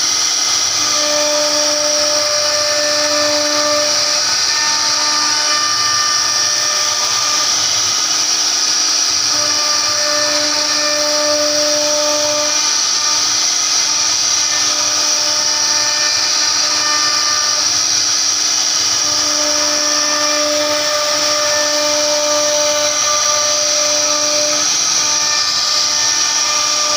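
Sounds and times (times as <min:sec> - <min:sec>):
router spindle whining: 0:00.0 - 0:26.9.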